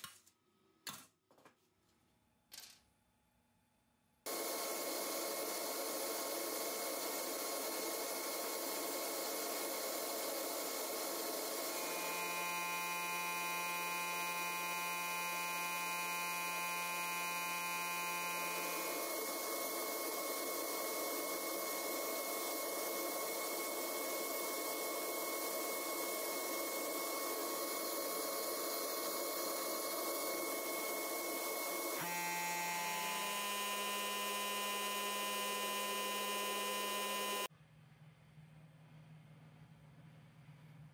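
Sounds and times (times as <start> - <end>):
machine motor humming: 4.3 - 37.5.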